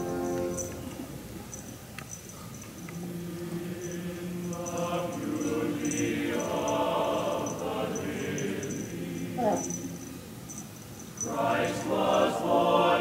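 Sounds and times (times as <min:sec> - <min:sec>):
choir singing long notes: 0:00.0 - 0:01.3, 0:02.8 - 0:10.2, 0:11.2 - 0:13.0.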